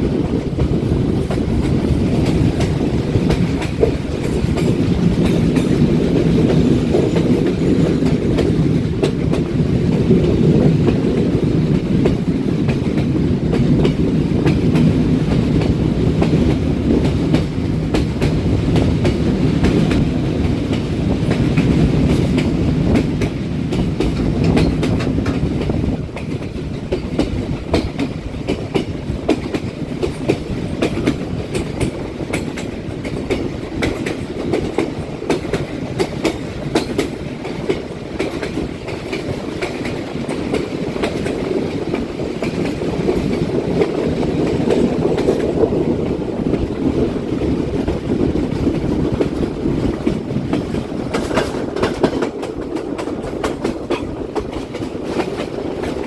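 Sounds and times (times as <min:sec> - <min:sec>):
train rolling rumble: 0:00.0 - 0:56.0
wheels clacking over rail joints: 0:00.0 - 0:56.0.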